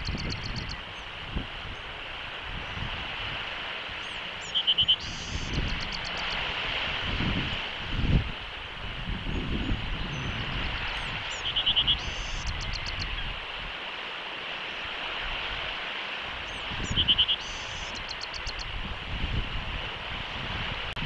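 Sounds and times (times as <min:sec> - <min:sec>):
wind rumble on microphone: 0:00.0 - 0:14.0, 0:14.8 - 0:21.0
wind and surf hiss: 0:00.0 - 0:21.0.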